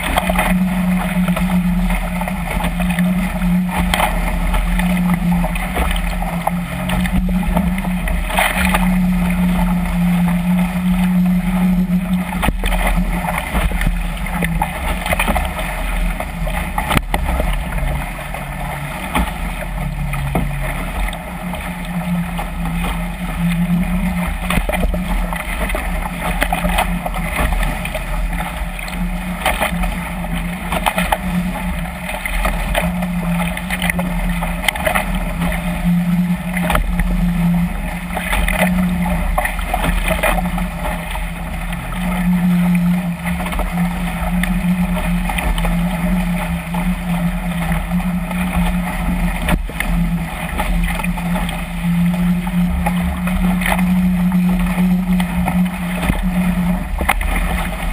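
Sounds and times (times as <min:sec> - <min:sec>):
low hum: 0:00.0 - 0:57.9
water rushing along boat hull: 0:00.0 - 0:57.9.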